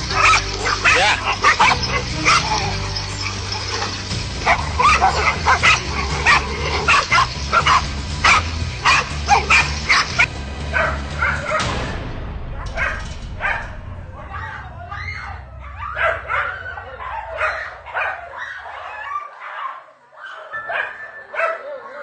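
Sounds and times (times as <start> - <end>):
dogs barking excitedly: 0.0 - 11.7, 14.3 - 22.0.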